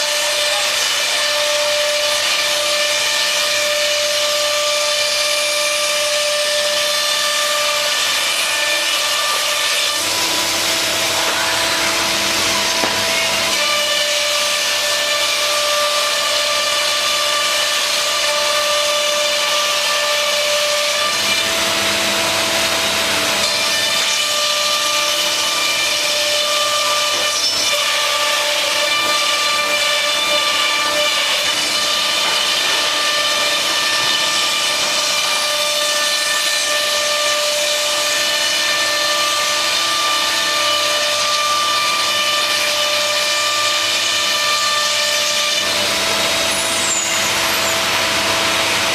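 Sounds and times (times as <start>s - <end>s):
router cutting noise: 0.0s - 48.9s
router spindle high whine: 0.0s - 48.9s.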